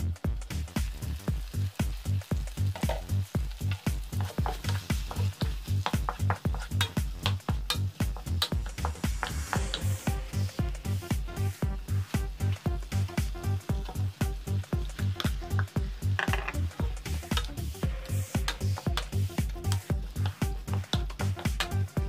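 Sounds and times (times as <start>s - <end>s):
background music with a beat: 0.0s - 22.0s
vegetables sizzling in a frying pan: 0.0s - 22.0s.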